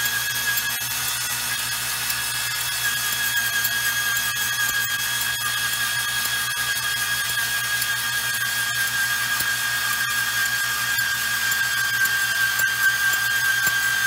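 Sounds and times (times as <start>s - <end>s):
band saw motor whining: 0.0s - 14.0s.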